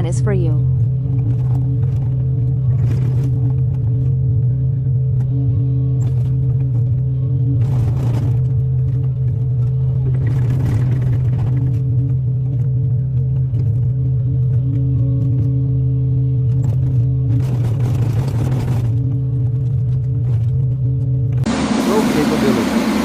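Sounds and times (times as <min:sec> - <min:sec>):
excavator diesel engine: 0:00.0 - 0:23.0.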